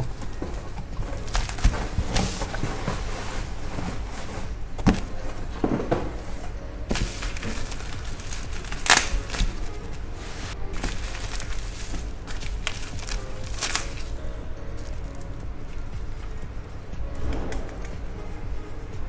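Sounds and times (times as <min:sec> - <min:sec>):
bubble wrap crinkling: 0:00.0 - 0:05.7, 0:06.3 - 0:15.9
background music: 0:00.0 - 0:19.0.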